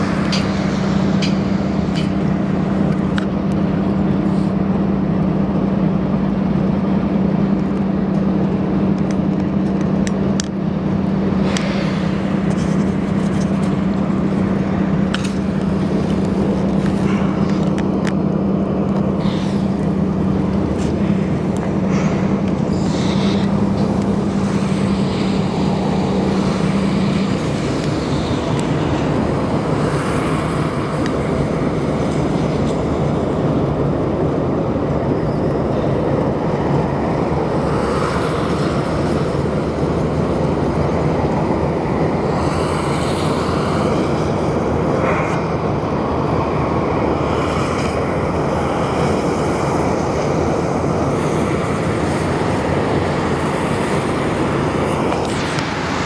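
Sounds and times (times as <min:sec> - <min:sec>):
low engine hum: 0:00.0 - 0:56.0
moving train rumble: 0:00.0 - 0:56.0.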